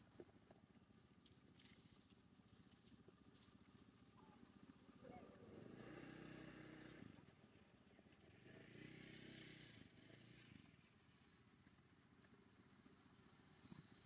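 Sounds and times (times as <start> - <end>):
faint distant engine hum: 0.0 - 14.0.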